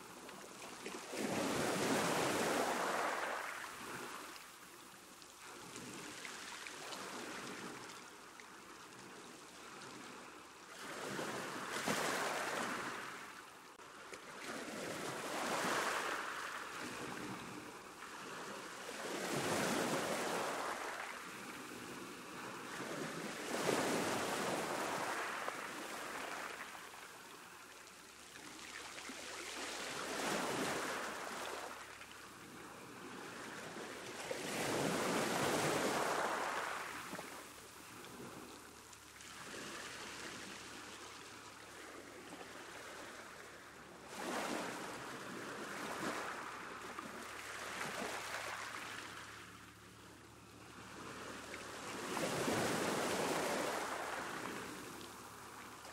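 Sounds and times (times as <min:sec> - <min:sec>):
ocean waves breaking on beach: 0:00.0 - 0:55.9.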